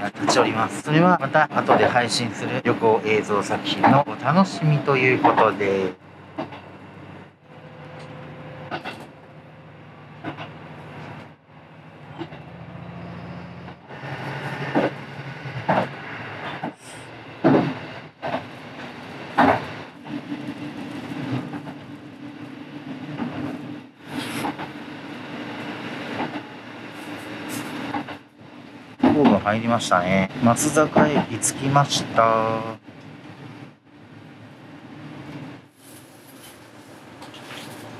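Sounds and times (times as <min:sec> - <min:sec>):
diesel railcar engine hum: 0:00.0 - 0:37.9.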